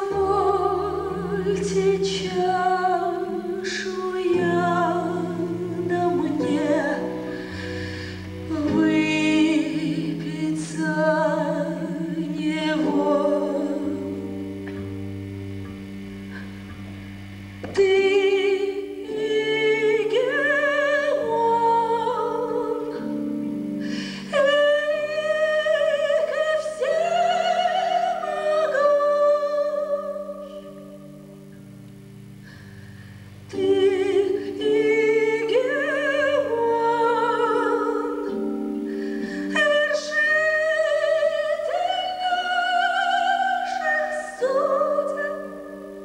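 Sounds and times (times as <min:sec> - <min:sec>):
person singing ballad: 0:00.0 - 0:46.0
sustained accompaniment: 0:00.0 - 0:46.0.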